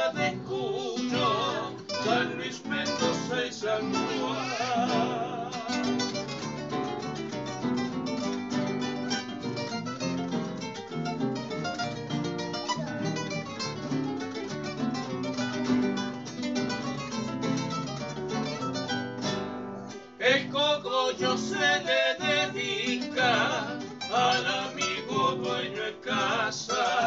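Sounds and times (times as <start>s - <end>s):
classical guitars playing together: 0.0s - 27.0s.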